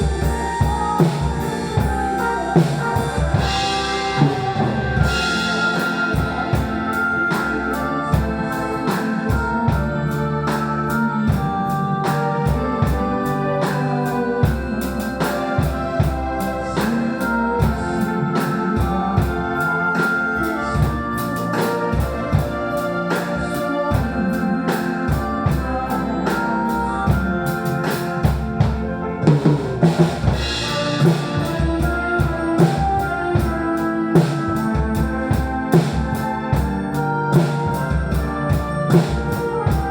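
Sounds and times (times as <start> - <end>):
organ-like keyboard chords: 0.0 - 39.9.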